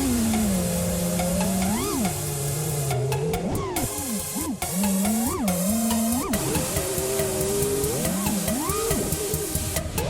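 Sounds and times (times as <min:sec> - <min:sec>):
electronic music with swooping tones: 0:00.0 - 0:10.0.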